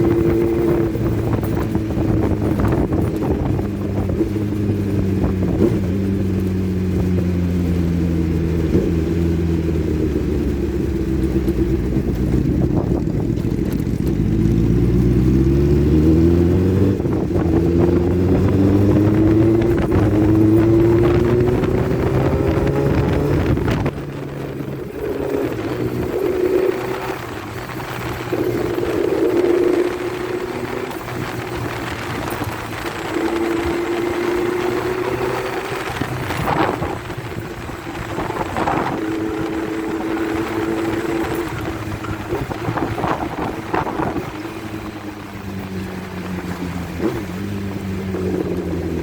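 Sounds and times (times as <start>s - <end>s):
motorcycle engine: 0.0s - 49.0s
wind noise: 0.0s - 49.0s.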